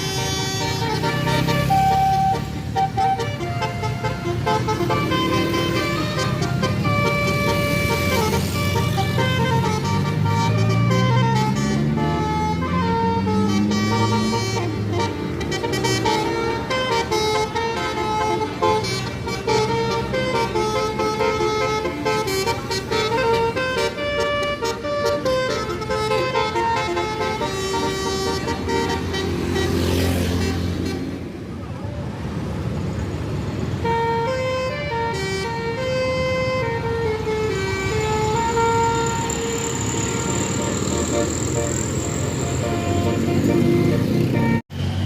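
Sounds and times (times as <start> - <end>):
bus air horn playing a tune: 0.0 - 31.3, 33.7 - 44.6
low traffic rumble: 0.0 - 45.0.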